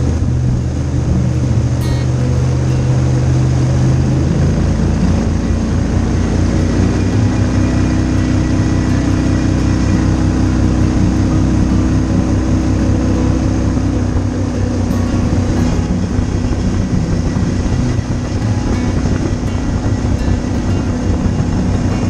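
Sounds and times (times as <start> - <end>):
boat mud motor running: 0.0 - 22.0
rushing wind and water: 0.0 - 22.0.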